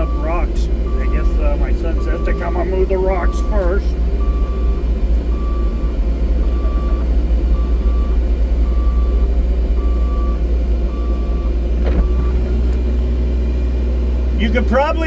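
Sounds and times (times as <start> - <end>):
travel alarm beeping: 0.0 - 12.8
excavator engine rumbling: 0.0 - 15.0.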